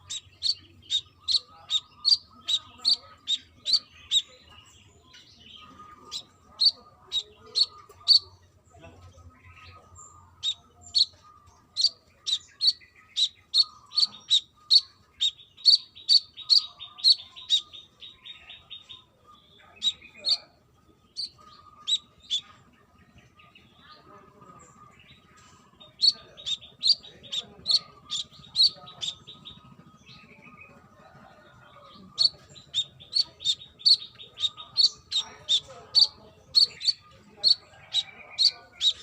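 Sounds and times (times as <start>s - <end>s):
bird chirping: 0.0s - 39.0s.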